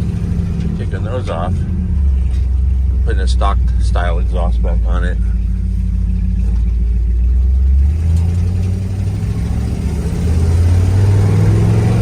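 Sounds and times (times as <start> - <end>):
pickup truck engine accelerating: 0.0 - 12.0.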